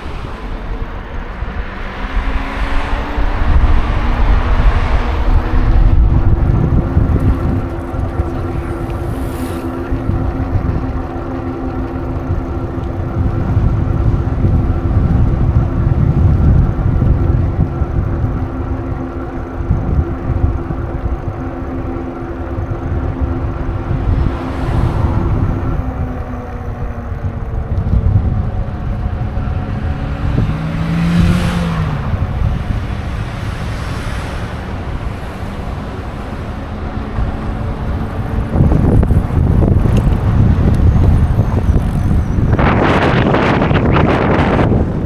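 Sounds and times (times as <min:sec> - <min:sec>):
droning hum: 0:00.0 - 0:45.0
rushing swells: 0:00.0 - 0:45.0
wind rumble on microphone: 0:00.0 - 0:45.0.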